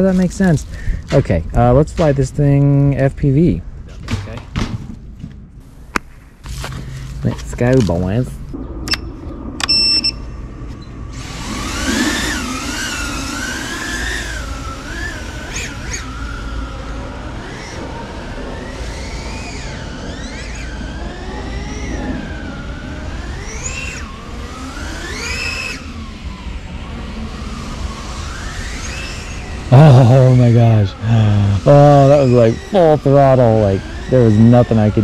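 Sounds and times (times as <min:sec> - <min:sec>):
quadcopter motors whining: 0:06.4 - 0:35.0.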